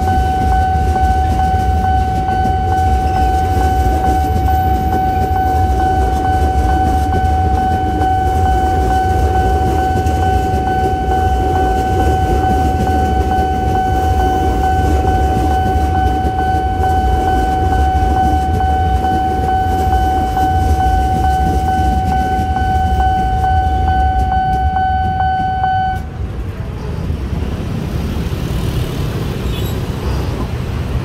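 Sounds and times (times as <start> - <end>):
level crossing alarm tone: 0.0 - 26.1
wheels clicking over rail joints: 0.0 - 26.5
road traffic noise: 0.0 - 31.0
train rumbling past: 0.0 - 31.0.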